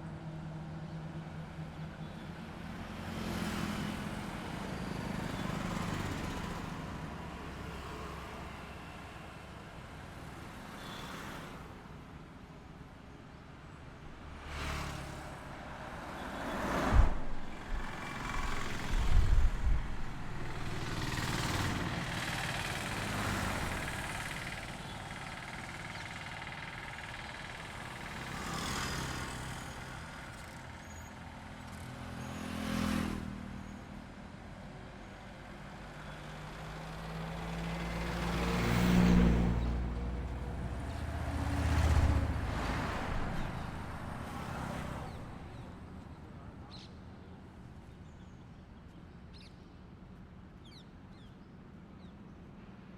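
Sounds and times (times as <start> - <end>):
cars and trucks passing: 0.0 - 46.8.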